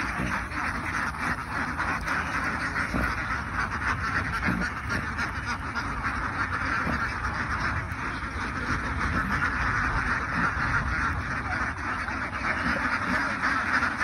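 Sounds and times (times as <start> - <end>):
flock of ducks quacking: 0.0 - 14.0.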